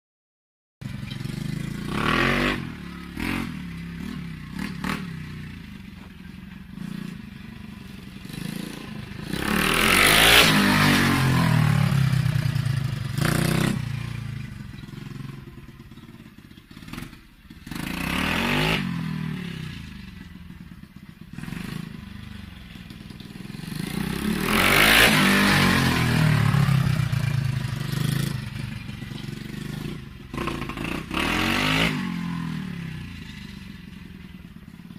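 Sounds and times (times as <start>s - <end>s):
motorbike engine revving: 0.8s - 6.0s, 6.6s - 34.9s.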